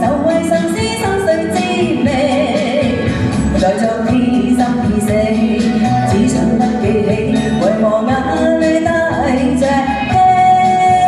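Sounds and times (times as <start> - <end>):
live pop song: 0.0 - 11.0.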